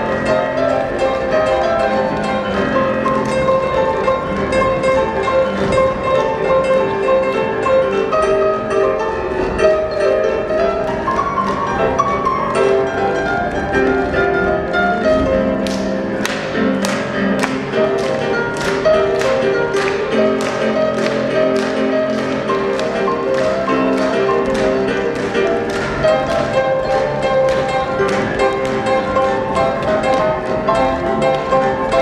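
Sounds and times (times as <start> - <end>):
instrumental dance music: 0.0 - 32.0.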